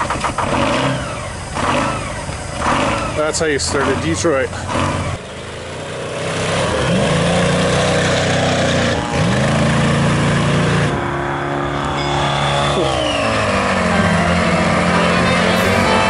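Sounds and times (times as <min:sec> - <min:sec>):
diesel truck engine pulling away: 0:00.0 - 0:16.0.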